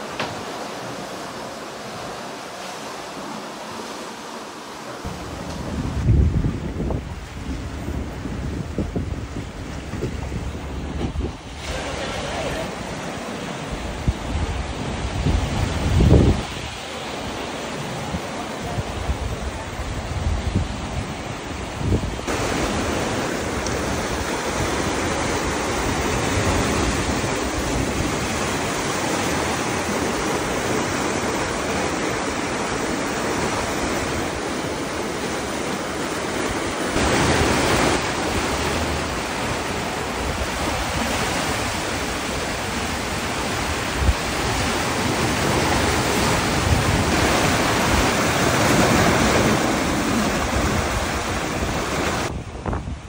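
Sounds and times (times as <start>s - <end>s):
sea water rushing: 0.0s - 53.0s
wind: 0.0s - 53.0s.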